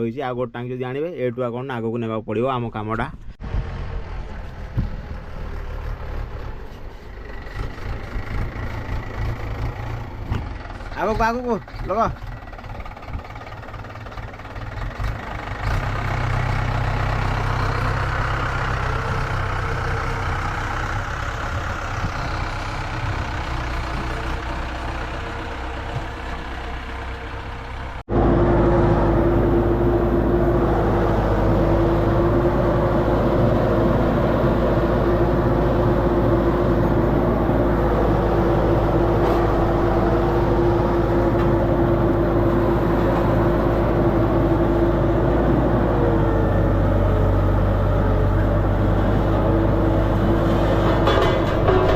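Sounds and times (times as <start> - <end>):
road roller diesel engine: 3.2 - 51.9.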